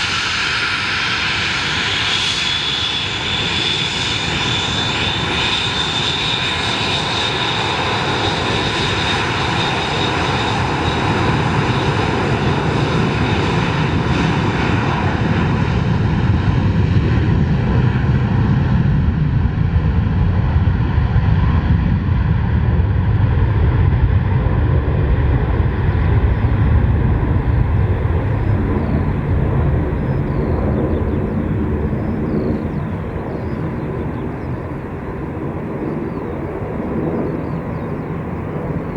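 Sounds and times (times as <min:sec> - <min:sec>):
jet engines whining: 0:00.0 - 0:15.4, 0:22.5 - 0:38.9
deep jet engine rumble: 0:00.0 - 0:38.9.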